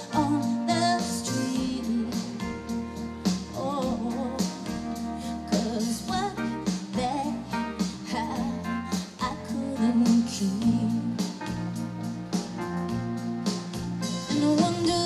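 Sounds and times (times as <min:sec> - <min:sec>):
live band playing pop song: 0:00.0 - 0:15.0.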